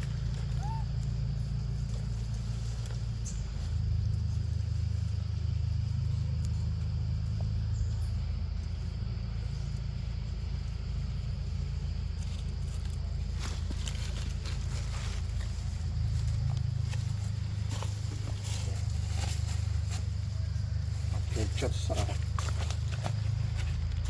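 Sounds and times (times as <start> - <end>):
low engine-like rumble: 0.0 - 24.0.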